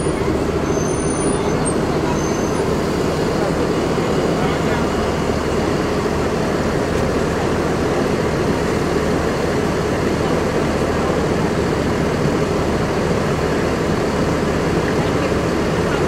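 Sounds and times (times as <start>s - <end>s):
bus engine rumble: 0.0s - 16.0s
city traffic noise: 0.0s - 16.0s.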